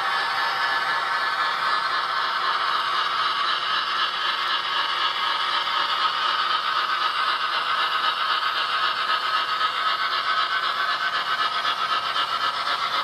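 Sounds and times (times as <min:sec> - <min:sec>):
model train rattling past: 0:00.0 - 0:13.0.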